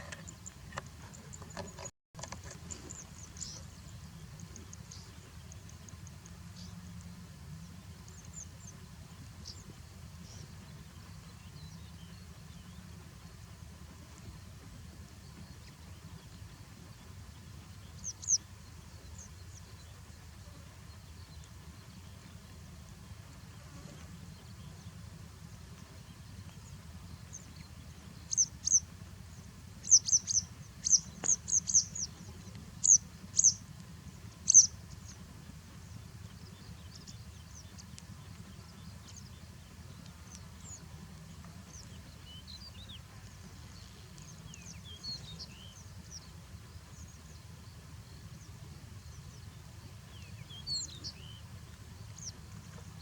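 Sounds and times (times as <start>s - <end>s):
birds chirping: 0.0s - 53.0s
steady low rumble: 0.0s - 53.0s.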